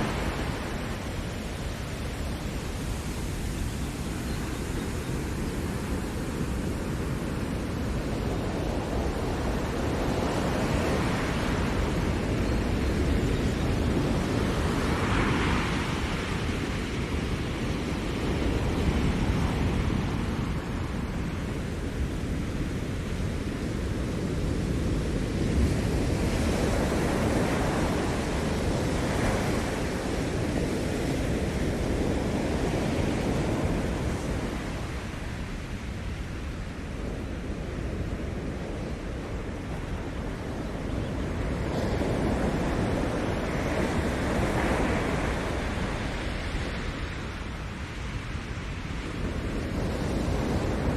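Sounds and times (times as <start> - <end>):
ocean waves breaking: 0.0 - 50.9.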